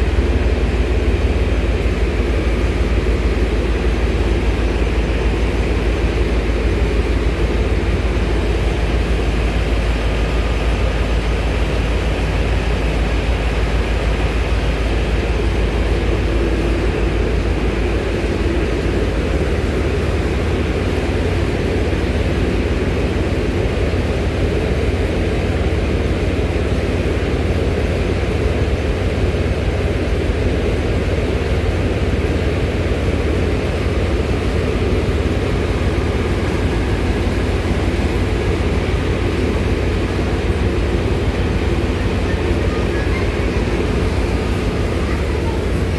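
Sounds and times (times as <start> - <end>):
low rumble of machinery: 0.0 - 45.9.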